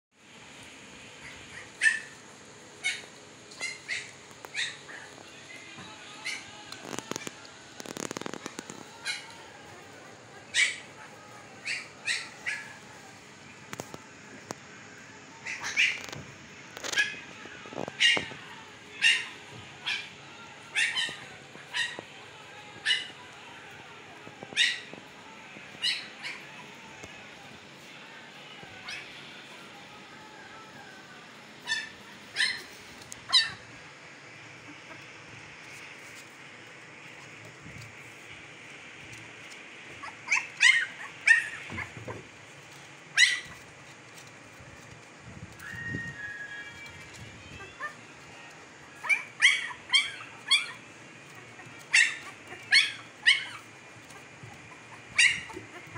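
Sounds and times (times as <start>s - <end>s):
puppies squeaking cries: 1.2s - 9.7s, 10.4s - 13.0s, 15.4s - 27.6s, 28.6s - 30.7s, 31.5s - 36.3s, 39.4s - 55.9s.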